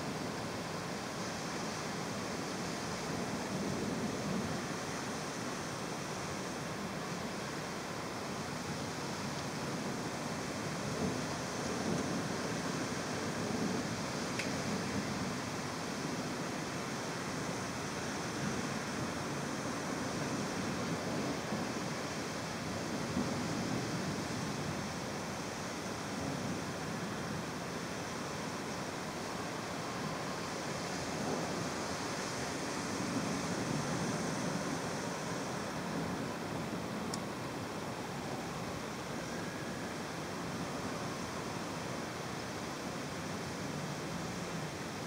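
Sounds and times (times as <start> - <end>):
heavy rain: 0.0 - 45.0
wind: 0.0 - 45.0.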